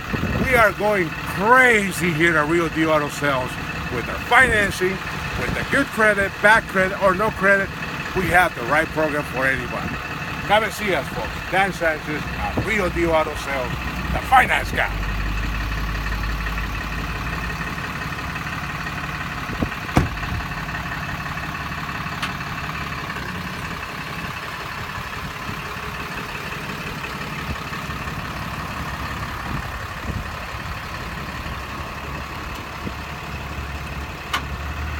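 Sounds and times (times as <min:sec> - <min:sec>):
motor vehicle engine running: 0:00.0 - 0:34.9.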